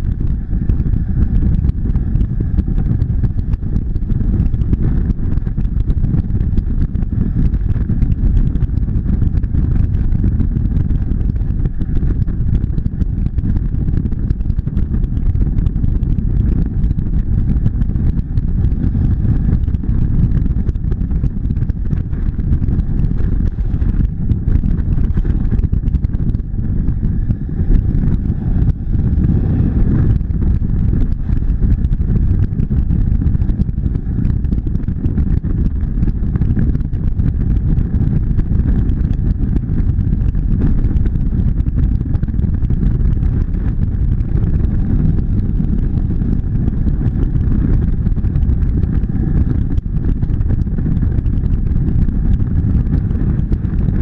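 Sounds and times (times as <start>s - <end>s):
low rumble of wind noise: 0.0s - 54.0s
motorcycle engine cruising: 0.0s - 54.0s.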